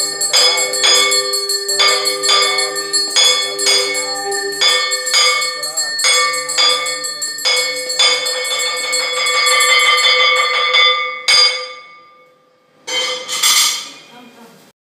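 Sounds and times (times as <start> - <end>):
small brass hand bell ringing: 0.0 - 13.8.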